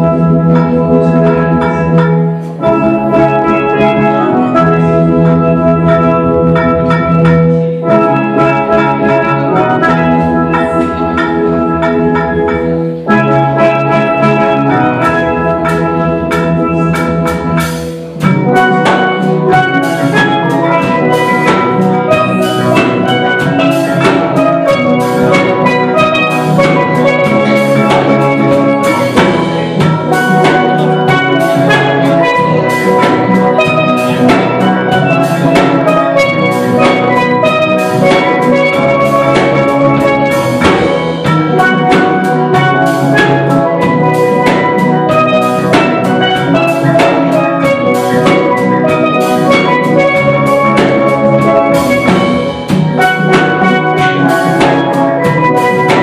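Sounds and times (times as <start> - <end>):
steel pan ensemble playing: 0.0 - 56.0.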